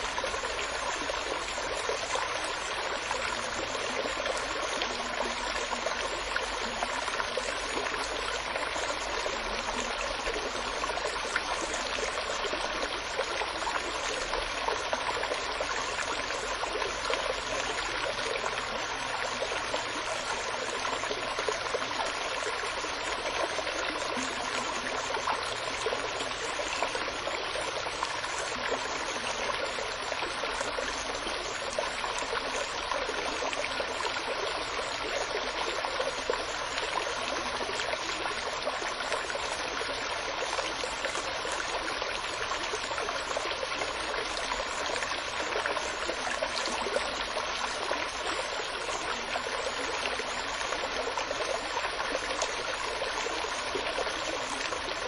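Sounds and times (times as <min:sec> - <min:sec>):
stream babbling and trickling: 0:00.0 - 0:55.0.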